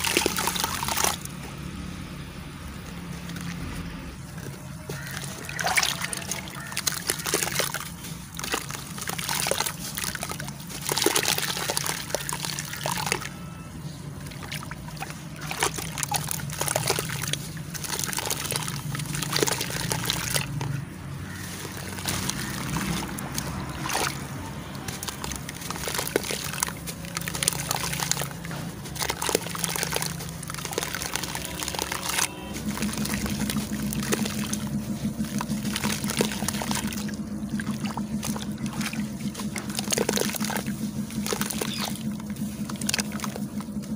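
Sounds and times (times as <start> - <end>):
water sloshing in bowl: 0.0 - 2.0, 2.6 - 43.9
charcoal crumbling squelches: 2.9 - 43.9.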